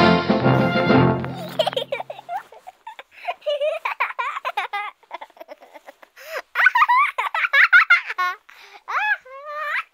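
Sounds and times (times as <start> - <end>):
baby giggling and squealing: 1.2 - 9.9.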